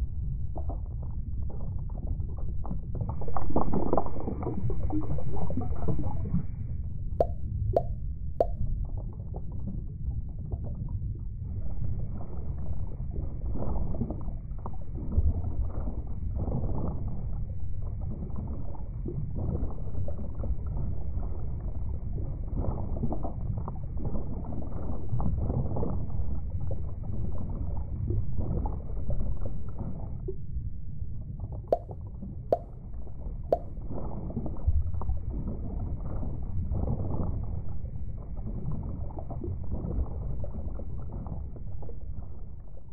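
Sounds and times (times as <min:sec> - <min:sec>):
low underwater rumble: 0:00.0 - 0:42.9
water bubbling and gurgling: 0:00.0 - 0:42.9.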